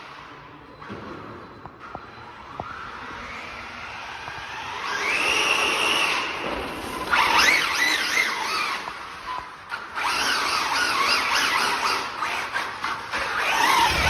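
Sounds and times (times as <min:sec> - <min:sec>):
rc car electric motor whining: 0:02.7 - 0:14.0.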